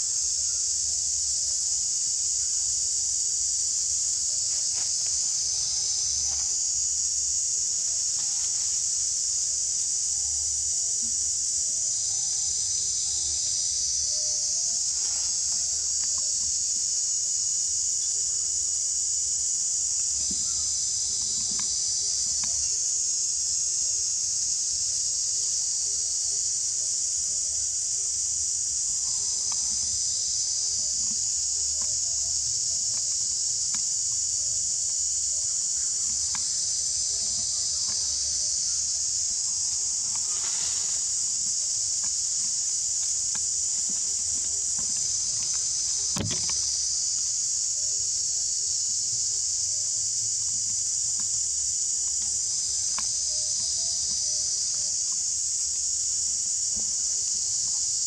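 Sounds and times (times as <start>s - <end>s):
insect chorus buzzing drone: 0.0s - 58.0s.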